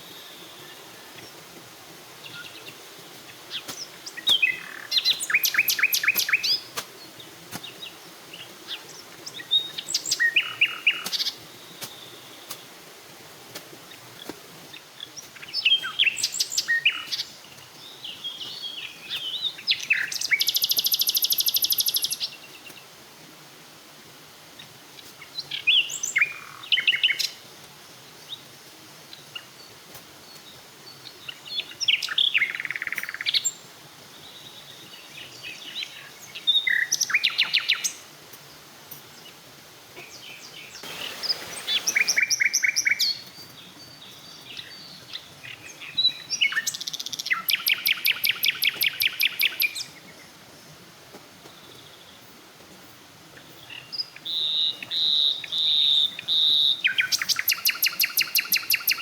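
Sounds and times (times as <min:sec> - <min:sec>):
songbirds chirping and trilling: 0:00.0 - 0:23.0, 0:24.5 - 0:59.0
rustling hiss: 0:00.0 - 0:59.0.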